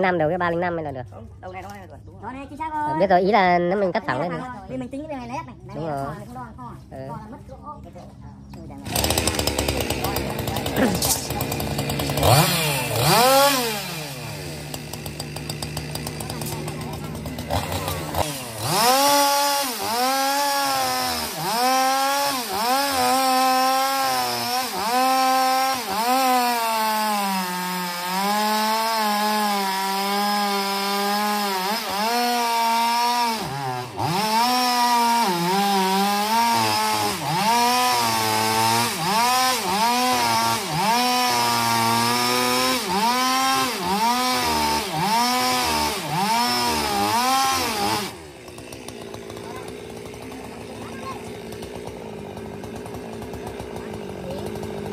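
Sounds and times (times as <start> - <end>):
chainsaw cutting log: 8.8 - 54.9.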